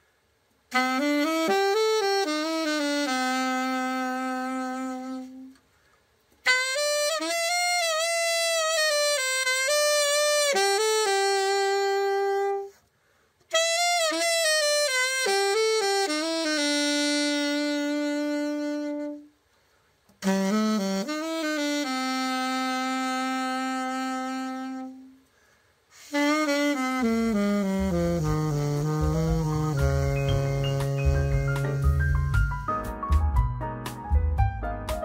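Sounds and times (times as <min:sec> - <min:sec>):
alto saxophone slow melody: 0:00.7 - 0:05.8, 0:06.4 - 0:33.2.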